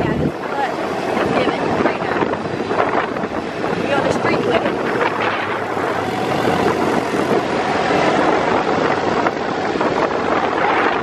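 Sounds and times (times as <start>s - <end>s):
buggy engine and road noise: 0.0s - 11.0s
wind rushing over microphone: 0.0s - 11.0s.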